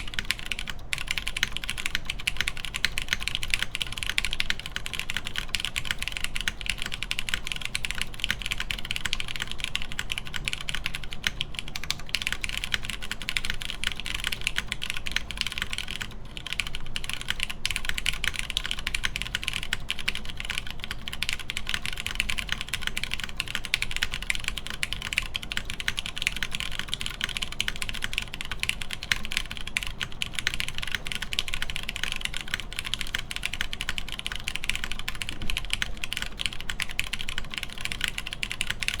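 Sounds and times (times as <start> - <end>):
fast mechanical keyboard typing: 0.0 - 39.0.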